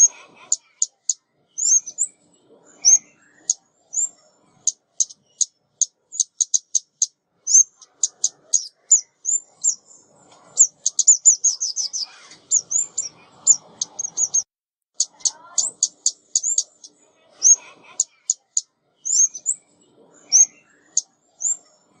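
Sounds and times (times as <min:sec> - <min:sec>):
songbird calling high chips: 0:00.0 - 0:02.1, 0:02.8 - 0:09.9, 0:10.6 - 0:19.6.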